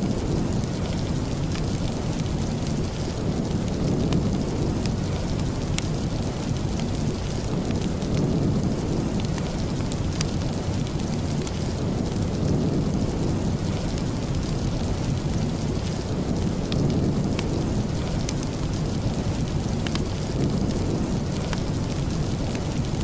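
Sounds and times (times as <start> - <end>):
sharp crackles: 0.0 - 23.0
steady rain: 0.0 - 23.0.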